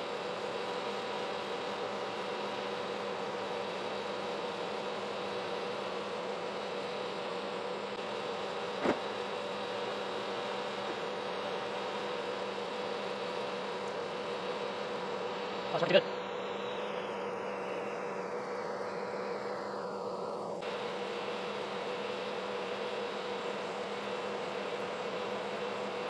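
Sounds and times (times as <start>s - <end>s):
milling machine drone: 0.0s - 26.0s.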